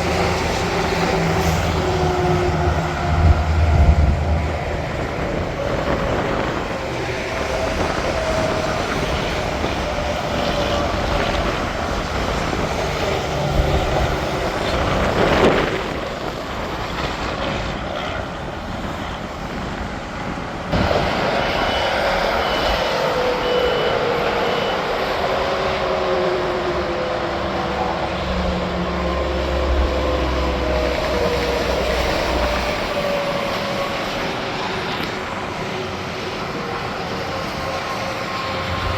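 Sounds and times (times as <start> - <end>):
highway traffic passing: 0.0 - 16.7, 24.0 - 38.9.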